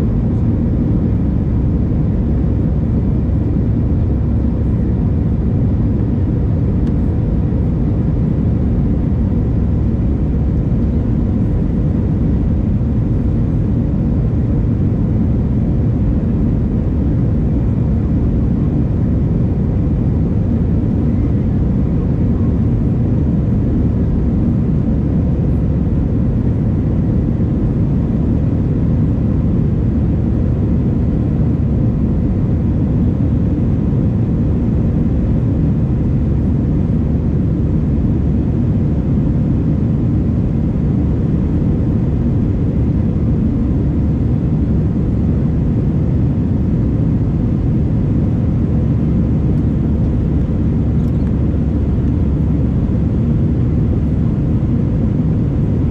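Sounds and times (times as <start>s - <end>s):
jet airliner cabin rumble: 0.0s - 55.9s.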